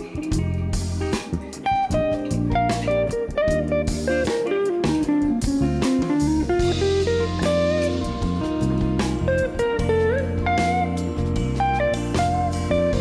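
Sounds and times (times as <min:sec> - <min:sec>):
low bass notes: 0:00.0 - 0:13.0
plucked guitar melody: 0:00.0 - 0:13.0
steady drum beat: 0:00.0 - 0:13.0.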